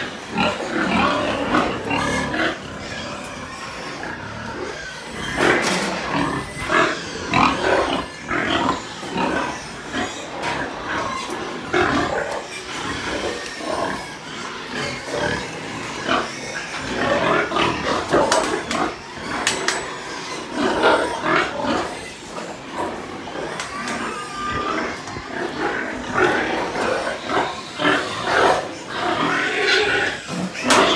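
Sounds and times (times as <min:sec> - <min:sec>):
pigs grunting and squealing: 0:00.0 - 0:30.9.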